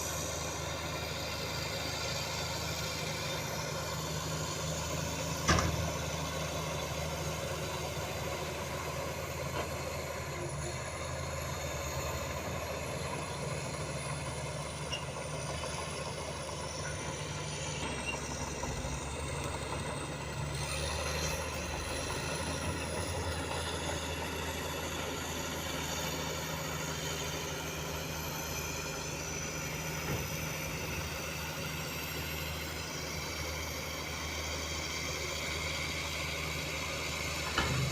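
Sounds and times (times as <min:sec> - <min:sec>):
diesel truck engine running: 0:00.0 - 0:37.9.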